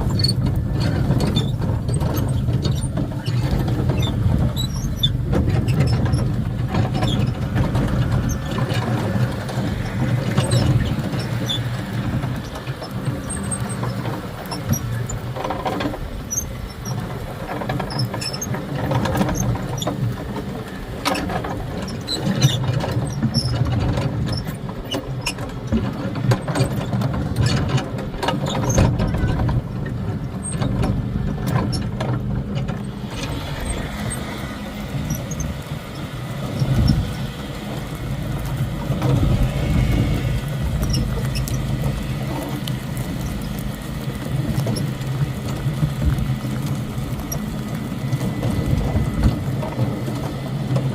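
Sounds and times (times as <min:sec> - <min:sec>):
carts clattering and squealing: 0:00.0 - 0:50.9
lawn tractor engine running: 0:00.0 - 0:50.9.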